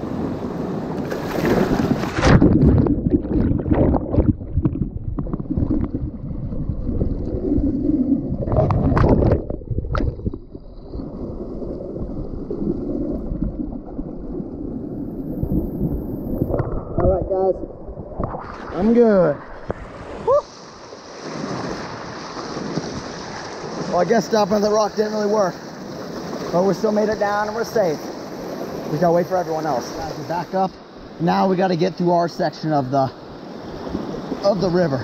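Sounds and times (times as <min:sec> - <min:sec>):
whitewater splashing against kayak: 0:00.0 - 0:14.3, 0:18.2 - 0:35.0.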